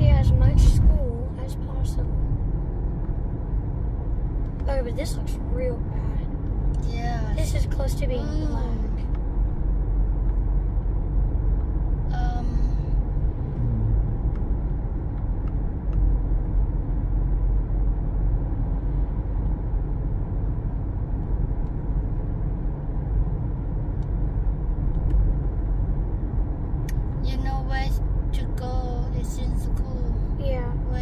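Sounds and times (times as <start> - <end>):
car road and engine noise: 0.0 - 31.0.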